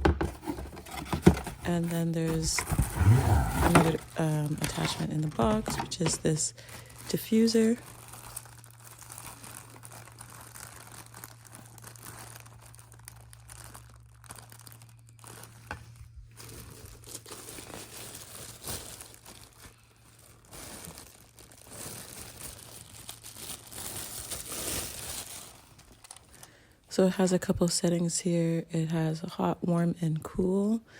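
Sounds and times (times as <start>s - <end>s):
packaging crinkling: 0.3s - 26.6s.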